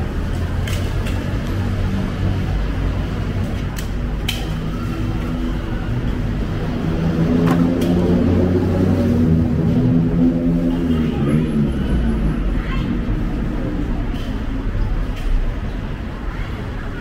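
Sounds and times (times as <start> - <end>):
traffic engines rumbling: 0.0 - 17.0.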